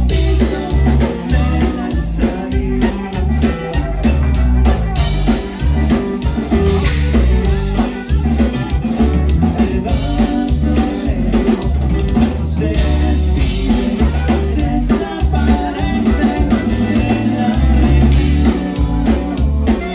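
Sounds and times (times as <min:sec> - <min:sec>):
drum kit and bass beat: 0:00.0 - 0:19.9
live band playing dance music: 0:00.0 - 0:19.9.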